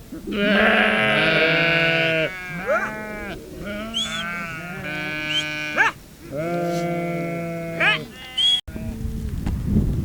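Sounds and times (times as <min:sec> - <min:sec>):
sheep bleating: 0:00.3 - 0:09.0.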